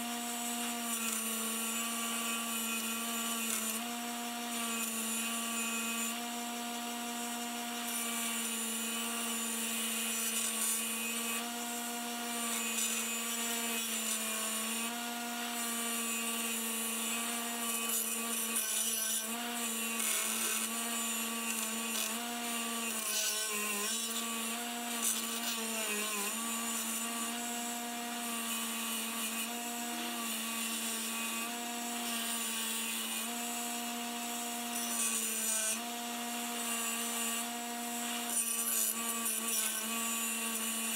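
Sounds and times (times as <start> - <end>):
bench grinder motor humming: 0.0 - 40.9.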